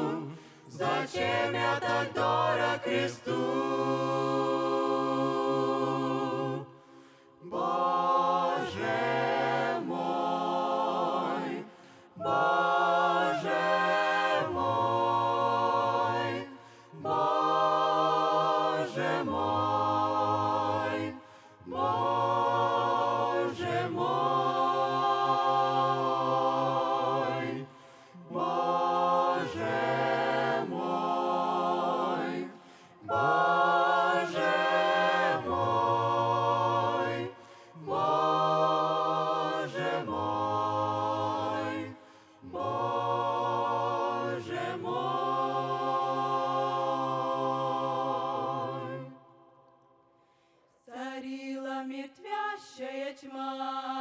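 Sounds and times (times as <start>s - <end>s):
mixed choir singing a cappella: 0.0s - 49.6s, 50.6s - 54.0s.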